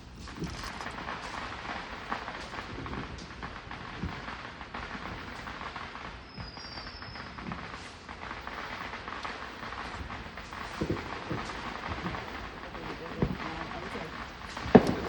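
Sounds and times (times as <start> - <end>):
firework crackling: 0.0 - 15.0.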